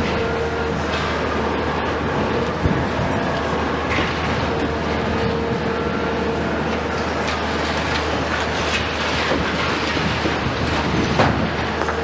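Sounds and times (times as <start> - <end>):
diesel engine under load: 0.0 - 12.0
falling debris crackles: 0.0 - 12.0
hydraulic whine: 0.0 - 12.0.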